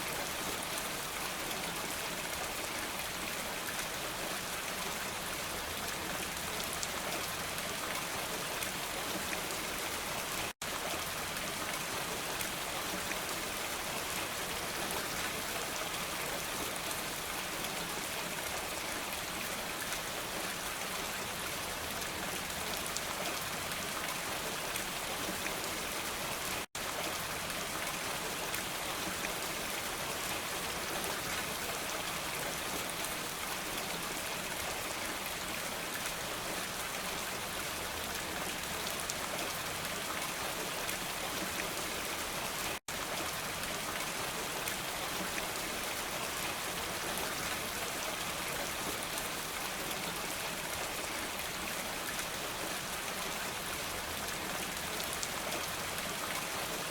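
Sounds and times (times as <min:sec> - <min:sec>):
dense rain falling: 0:00.0 - 0:56.9.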